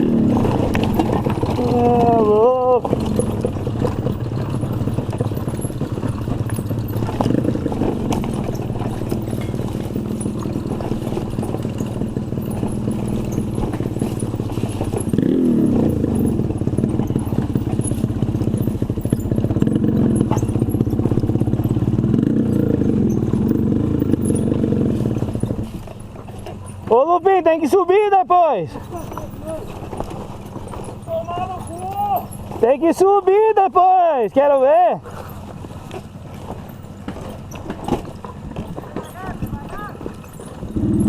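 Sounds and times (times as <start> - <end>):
two-stroke motorcycle engines revving: 0.0 - 41.0.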